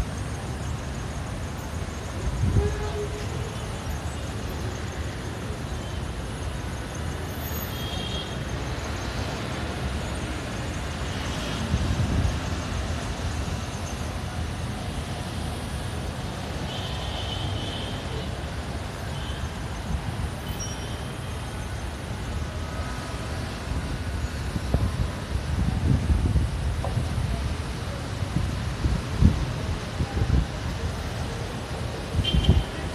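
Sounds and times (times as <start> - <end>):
distant road traffic rumble: 0.0 - 32.9.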